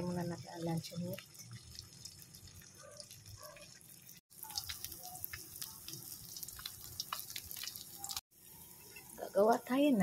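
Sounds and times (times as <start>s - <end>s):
oil spitting in a frying pan: 0.0s - 10.0s.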